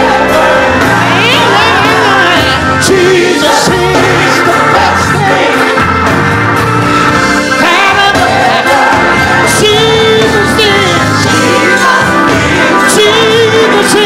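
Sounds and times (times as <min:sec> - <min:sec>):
band with bass notes: 0:00.0 - 0:14.0
voices singing together: 0:00.0 - 0:14.0.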